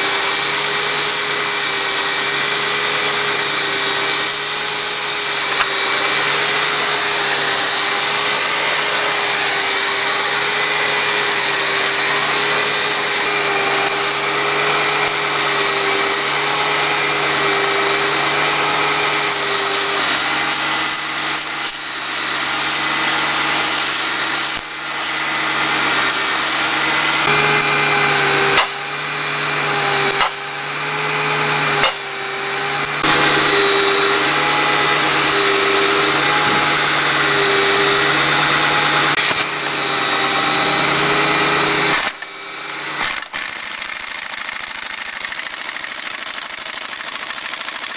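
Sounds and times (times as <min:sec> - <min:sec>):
excavator engine and hydraulics whine: 0:00.0 - 0:47.9.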